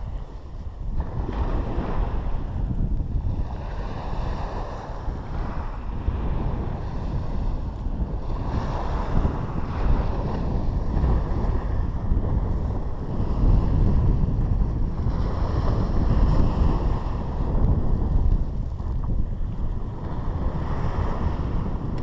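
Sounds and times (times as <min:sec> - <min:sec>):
waves breaking on beach: 0:00.0 - 0:22.0
wind buffeting microphone: 0:00.0 - 0:22.0.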